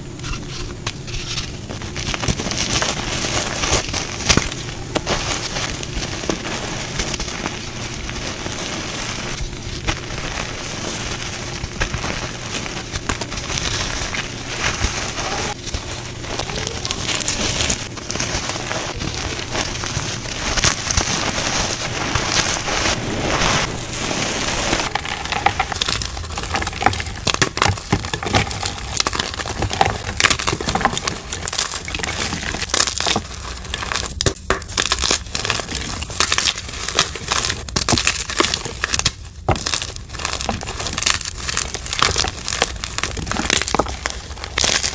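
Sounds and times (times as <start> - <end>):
chalk crunching and crackling: 0.1 - 44.9.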